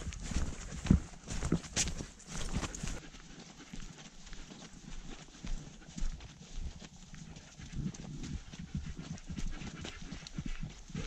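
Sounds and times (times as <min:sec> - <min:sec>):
dog panting: 0:00.0 - 0:11.0
footsteps on a trail: 0:00.0 - 0:11.0.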